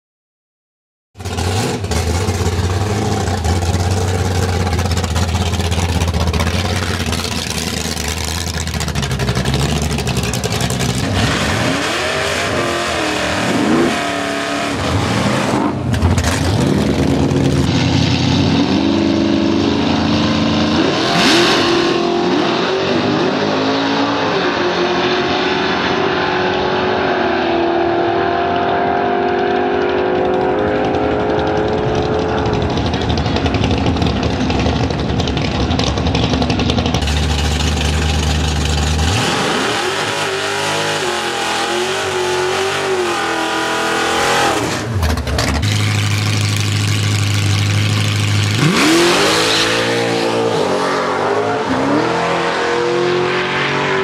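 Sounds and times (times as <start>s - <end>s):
drag car engine revving: 1.2s - 54.0s.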